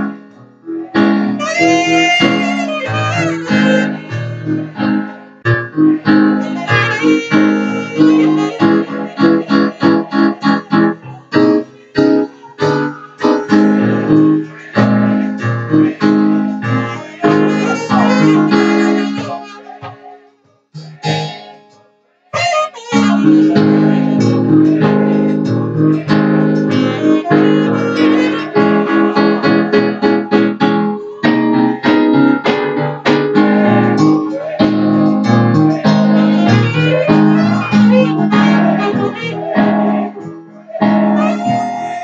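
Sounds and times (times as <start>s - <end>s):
electric keyboard music: 0.0s - 42.0s.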